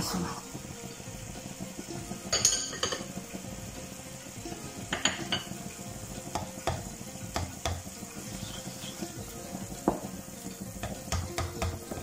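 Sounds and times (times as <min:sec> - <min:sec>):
syrup bubbling and sizzling: 0:00.0 - 0:12.0.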